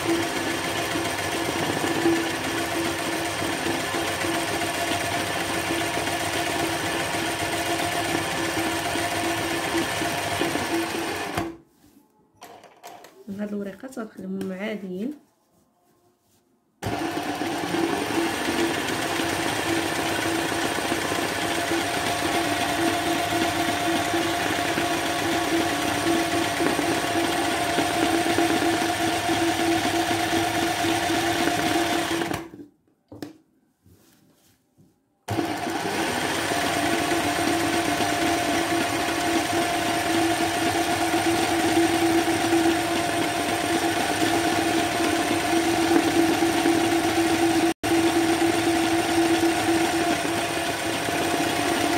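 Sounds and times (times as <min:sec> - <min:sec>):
sewing machine running: 0:00.0 - 0:11.6, 0:16.8 - 0:32.5, 0:35.3 - 0:51.9.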